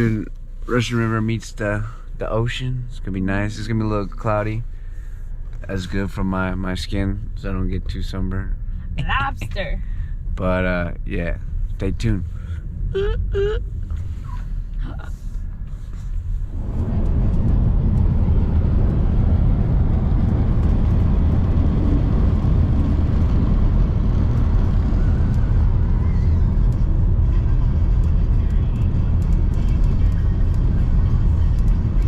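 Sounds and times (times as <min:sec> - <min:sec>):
car road and wind noise: 0:00.0 - 0:32.0.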